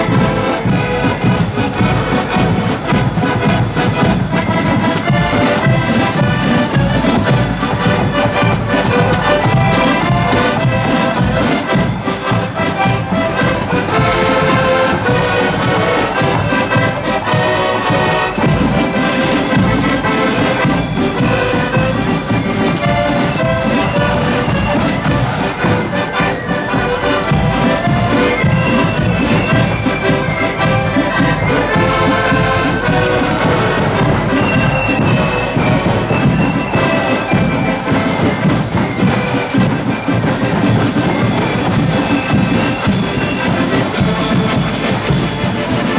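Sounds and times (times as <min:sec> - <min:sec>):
accordion band playing: 0:00.0 - 0:45.9
steady marching beat: 0:00.0 - 0:45.9.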